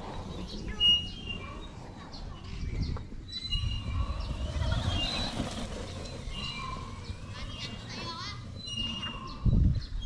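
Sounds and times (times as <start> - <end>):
birds chirping: 0.0 - 10.0
rc truck low rumble: 0.0 - 10.0.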